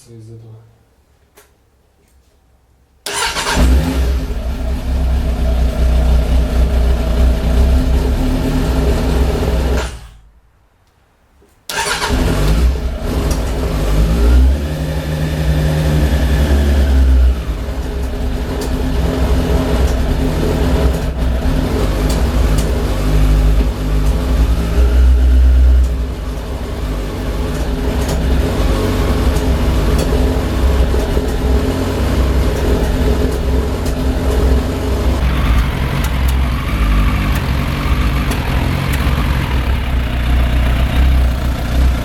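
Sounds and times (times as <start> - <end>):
motorcycle engine starting and revving: 3.1 - 10.2, 11.7 - 42.0.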